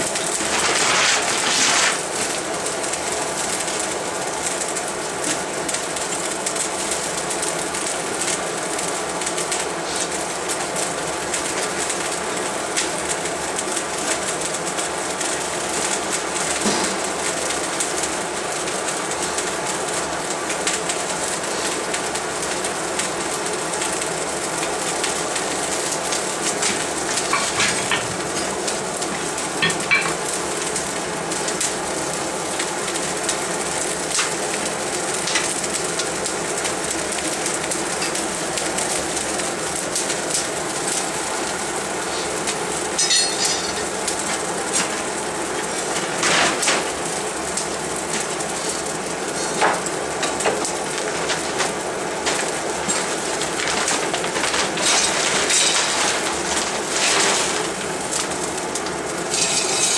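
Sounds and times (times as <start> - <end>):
fire burning and crackling: 0.0 - 59.9.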